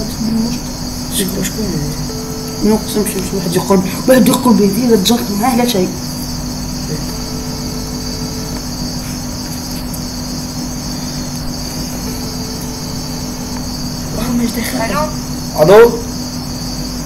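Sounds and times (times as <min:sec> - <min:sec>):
high-pitched chirring: 0:00.0 - 0:17.0
low steady hum: 0:00.0 - 0:17.0.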